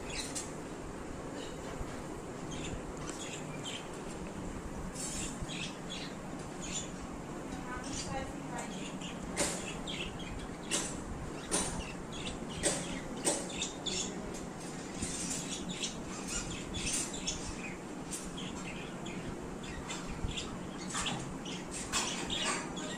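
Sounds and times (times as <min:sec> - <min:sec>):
pet birds chirping: 0:00.0 - 0:00.6, 0:02.4 - 0:04.2, 0:04.9 - 0:22.9
low background hum: 0:00.0 - 0:22.9.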